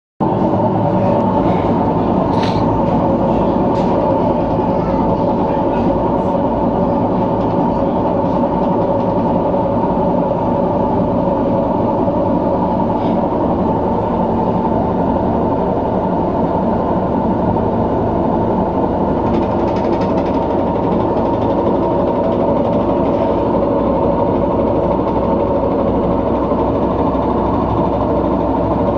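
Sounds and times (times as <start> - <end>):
washing machine running: 0.2 - 28.9.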